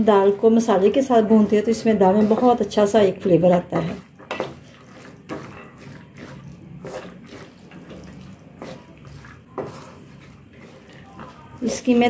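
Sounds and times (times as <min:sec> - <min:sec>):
lentils sizzling in oil: 0:00.0 - 0:12.0
spoon scraping a pan: 0:00.7 - 0:12.0.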